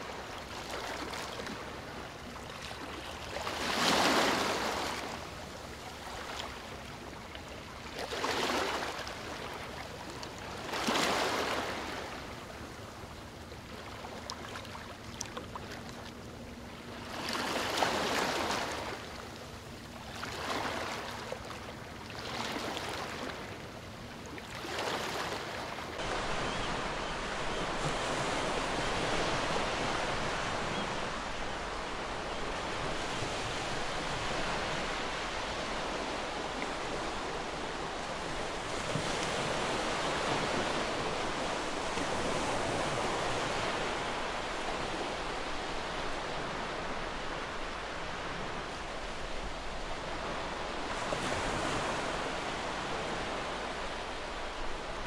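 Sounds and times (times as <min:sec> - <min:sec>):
small waves breaking on beach: 0:00.0 - 0:16.2, 0:16.8 - 0:55.0.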